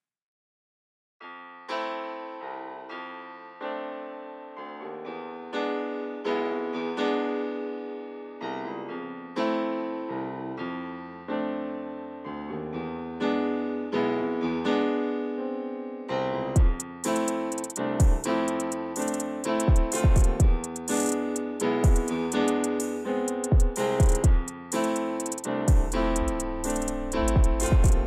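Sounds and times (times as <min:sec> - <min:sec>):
slow piano music: 0:01.2 - 0:28.0.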